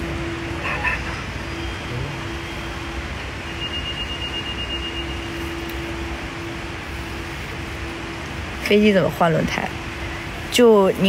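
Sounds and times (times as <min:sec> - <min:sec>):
hiss and rumble: 0:00.0 - 0:11.0.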